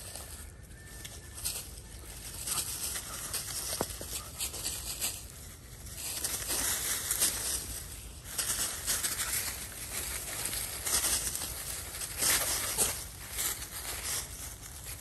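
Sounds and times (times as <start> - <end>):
leaves and sand rustling: 0.0 - 15.0.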